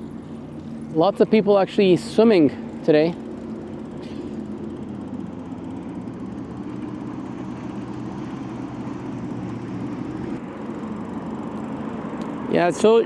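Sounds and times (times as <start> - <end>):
bicycle riding noise: 0.0 - 13.0.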